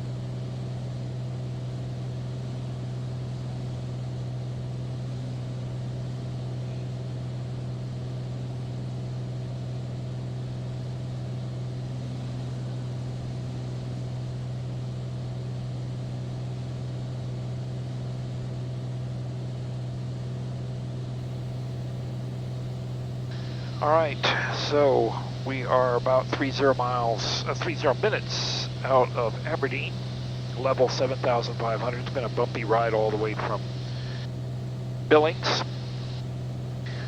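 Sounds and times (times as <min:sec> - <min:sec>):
propeller plane engine droning: 0:00.0 - 0:37.0.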